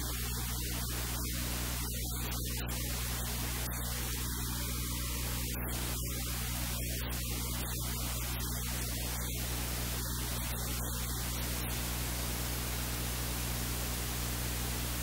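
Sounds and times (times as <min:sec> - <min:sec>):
low electrical hum: 0:00.0 - 0:15.0
steady hiss: 0:00.0 - 0:15.0.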